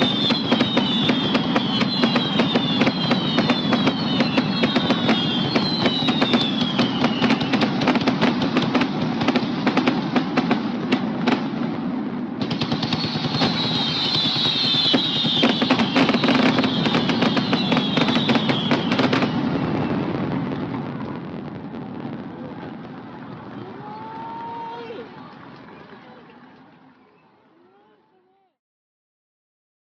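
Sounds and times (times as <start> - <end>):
fireworks falling whistles: 0.0 - 11.5, 12.4 - 25.0
fireworks crackling bangs: 0.0 - 26.8.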